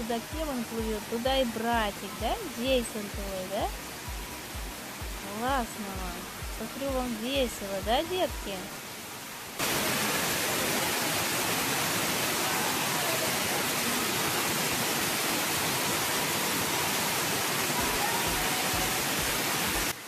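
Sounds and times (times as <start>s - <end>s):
fountain water pouring: 0.0s - 20.0s.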